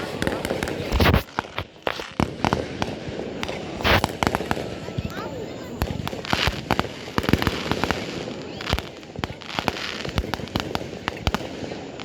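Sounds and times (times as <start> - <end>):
fireworks bangs and pops: 0.0 - 12.0
fireworks crackle: 0.0 - 12.0.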